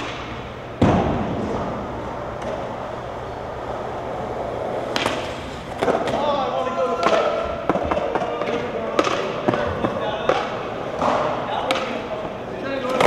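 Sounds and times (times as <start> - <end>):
skateboard wheels rolling on concrete: 0.0 - 11.1
skateboard slapping: 0.0 - 12.0
skateboard clack: 0.0 - 13.0.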